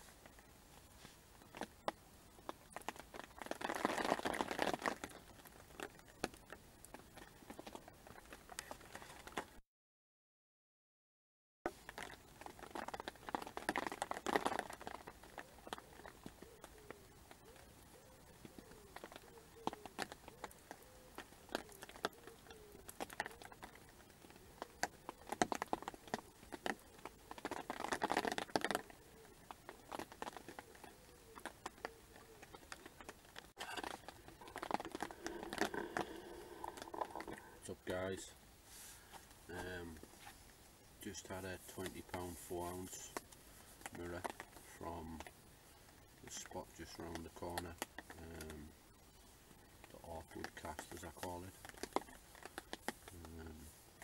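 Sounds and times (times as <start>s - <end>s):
rain pattering: 1.4s - 9.5s, 11.7s - 17.6s, 18.3s - 38.4s, 41.0s - 54.0s.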